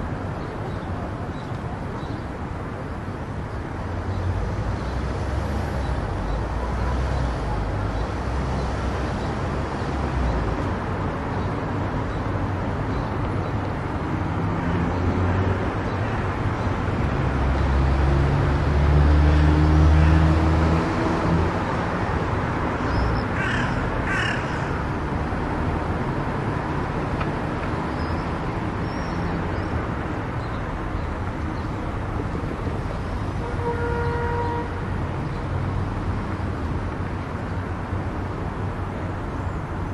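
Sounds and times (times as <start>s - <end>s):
car road and tyre noise: 0.0s - 39.9s.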